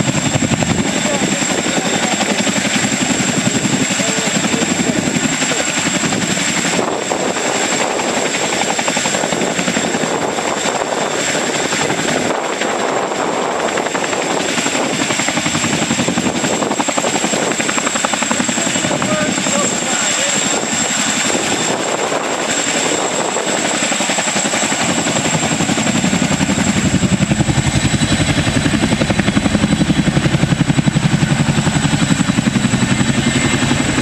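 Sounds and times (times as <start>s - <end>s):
helicopter rotor chop: 0.0s - 34.0s
high turbine whine: 0.0s - 34.0s.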